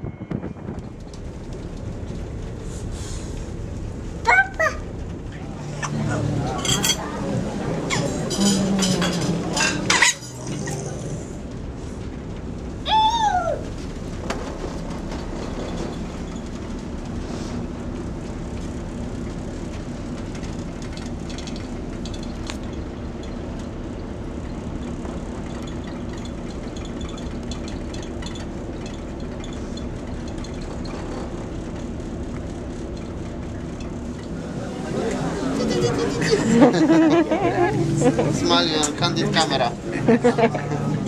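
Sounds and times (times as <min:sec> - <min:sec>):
ship engines humming: 0:00.0 - 0:41.0.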